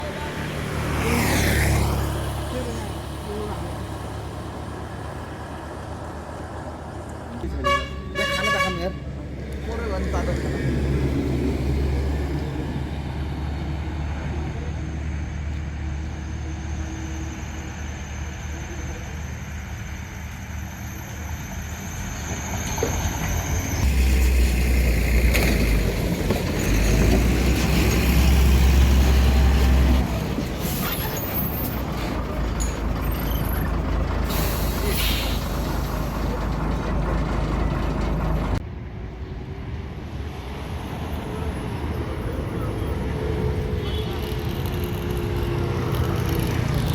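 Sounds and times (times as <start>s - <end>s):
road noise: 0.0s - 46.9s
vehicle engine rumble: 0.0s - 46.9s.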